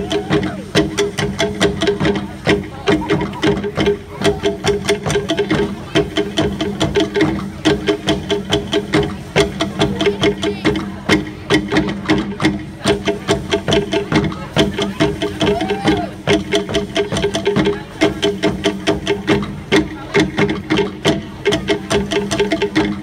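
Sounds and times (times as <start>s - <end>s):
fast sharp drum strikes: 0.0s - 23.0s.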